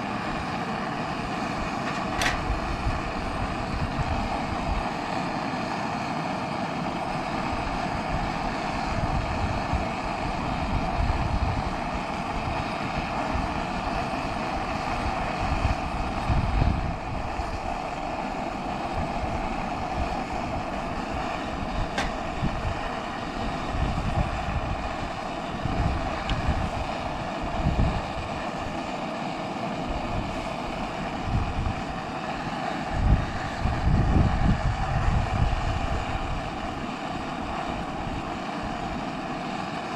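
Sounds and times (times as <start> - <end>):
gas burner roaring hiss: 0.0 - 39.9
wind buffeting microphone: 1.2 - 5.0, 7.2 - 28.8, 29.9 - 32.1, 32.8 - 39.1.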